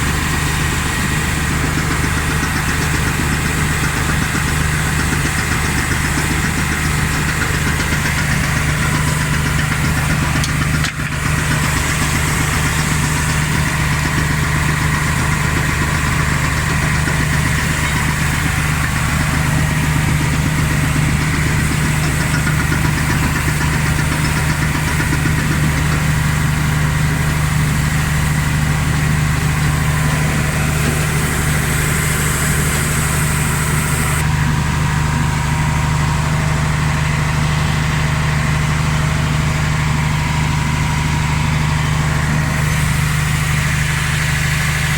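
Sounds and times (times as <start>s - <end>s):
truck diesel engine idling: 0.0s - 44.9s.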